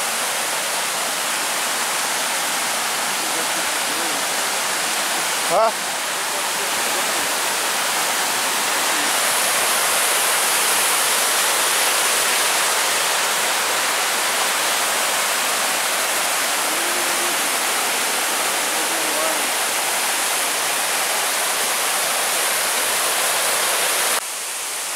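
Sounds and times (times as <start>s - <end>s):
creek rushing over rocks: 0.0s - 24.9s.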